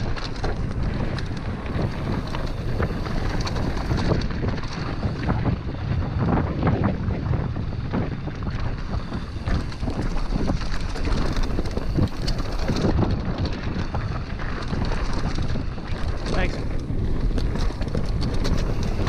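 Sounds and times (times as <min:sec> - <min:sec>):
bike clattering over rocks: 0:00.0 - 0:05.2, 0:08.7 - 0:19.0
bike tyre noise: 0:00.0 - 0:19.0
wind buffeting microphone: 0:00.0 - 0:19.0.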